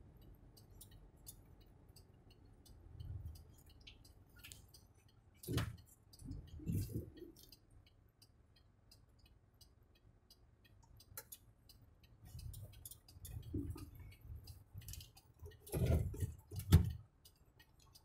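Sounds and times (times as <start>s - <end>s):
light ticking: 0.0s - 18.0s.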